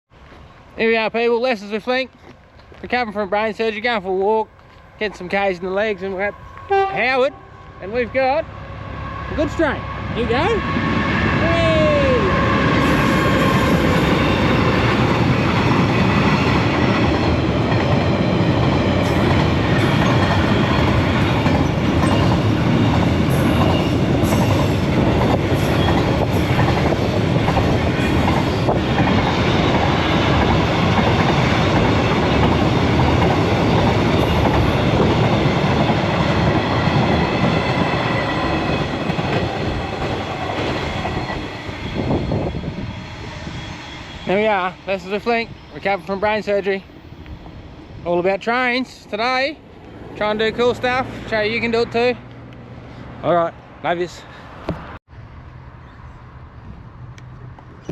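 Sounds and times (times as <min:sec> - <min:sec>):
freight train wagons rumbling: 0:00.2 - 0:52.6.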